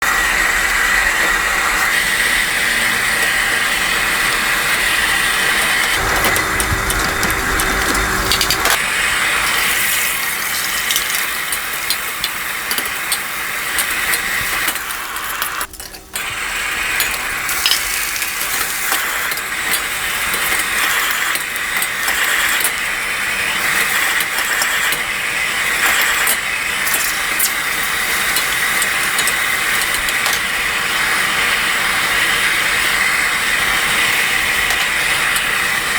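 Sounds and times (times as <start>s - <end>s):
noodles and egg sizzling: 0.0s - 35.9s.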